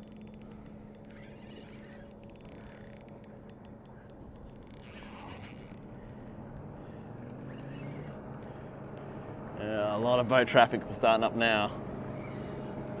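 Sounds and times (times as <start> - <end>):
small clicks and scrapes: 0.0 - 8.6, 11.0 - 13.0
motorboat engine hum: 0.0 - 13.0.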